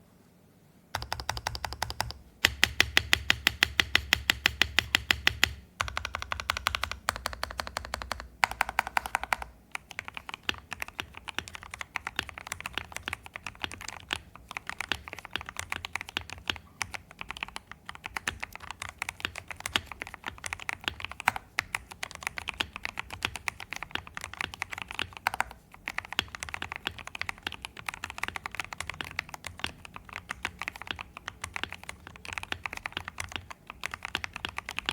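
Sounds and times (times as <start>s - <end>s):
mechanical keyboard typing: 0.9s - 34.9s.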